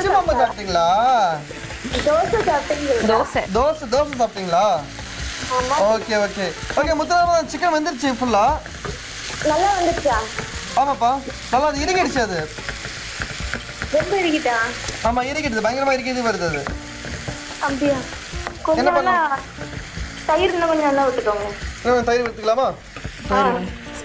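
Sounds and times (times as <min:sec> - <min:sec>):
spatula stirring: 0:00.0 - 0:23.2
chicken sizzling in a frying pan: 0:00.0 - 0:24.0.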